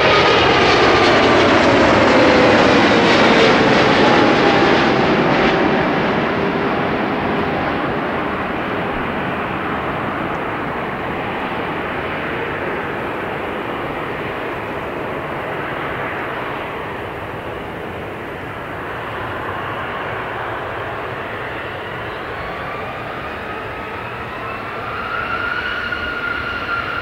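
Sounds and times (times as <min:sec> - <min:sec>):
jet engine rush and rumble: 0:00.0 - 0:27.0.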